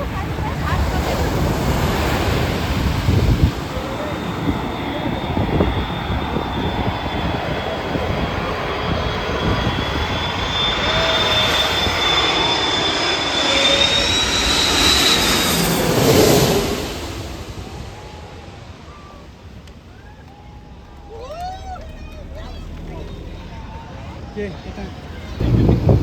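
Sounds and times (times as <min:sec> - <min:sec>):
high fan whine: 0:00.0 - 0:26.0
jet engines rumbling: 0:00.0 - 0:26.0.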